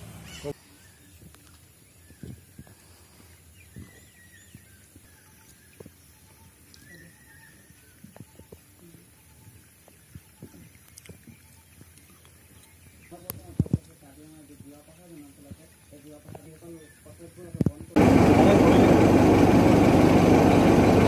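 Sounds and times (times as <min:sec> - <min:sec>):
faint bird calls: 0:00.1 - 0:17.8.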